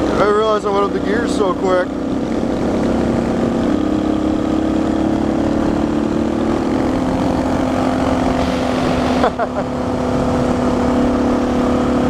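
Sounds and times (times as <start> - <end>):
motorcycle engine running: 0.0 - 12.0
wind rushing: 1.9 - 12.0.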